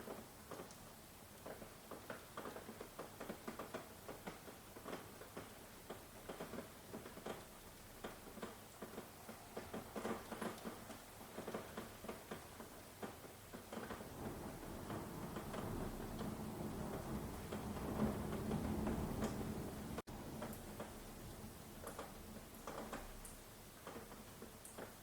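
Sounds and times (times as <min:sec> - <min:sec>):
faint steady rain hiss: 0:00.0 - 0:25.0
raindrops striking close by: 0:00.0 - 0:25.0.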